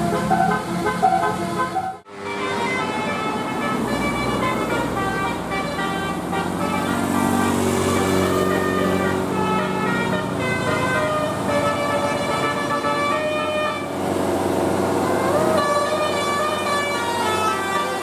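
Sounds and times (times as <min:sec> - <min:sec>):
multi-tone musical air horn: 0:00.0 - 0:14.1, 0:15.0 - 0:18.0.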